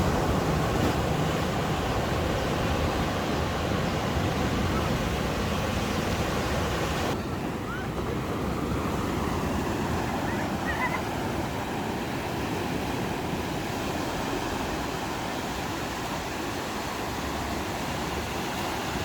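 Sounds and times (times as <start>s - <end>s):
ocean surf on a beach: 0.0s - 19.0s.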